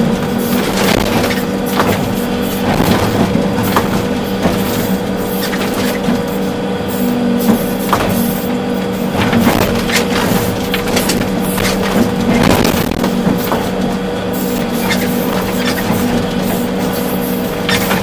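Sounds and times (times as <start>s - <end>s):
machine knocks and clunks: 0.0s - 6.5s, 7.4s - 18.0s
excavator diesel engine running: 0.0s - 18.0s.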